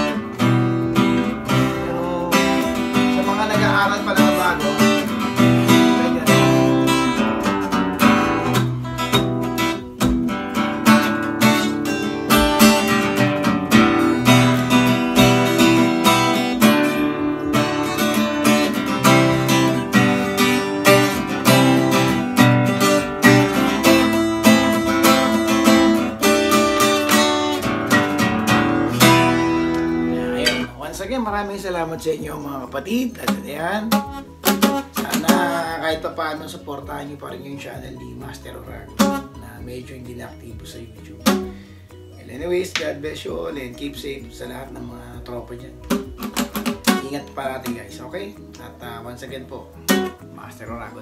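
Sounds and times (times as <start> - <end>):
acoustic guitar strumming: 0.0 - 51.0.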